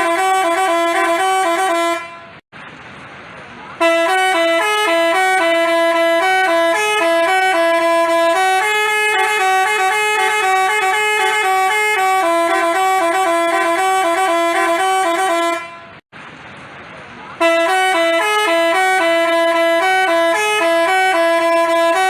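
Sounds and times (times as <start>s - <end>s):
bus horn playing a tune: 0.0s - 2.4s, 3.8s - 16.0s, 17.4s - 22.0s.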